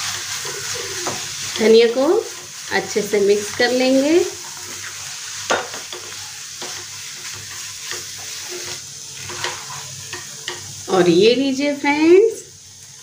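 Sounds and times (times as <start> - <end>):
wooden spatula scraping a pan: 0.0 - 10.6
light sizzle of frying: 0.0 - 13.0.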